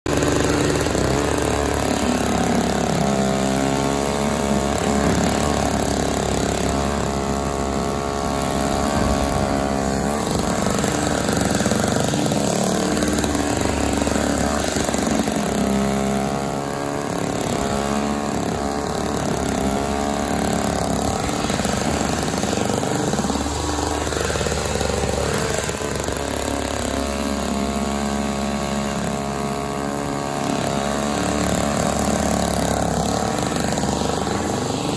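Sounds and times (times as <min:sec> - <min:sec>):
snowblower engine running hard: 0:00.0 - 0:34.9.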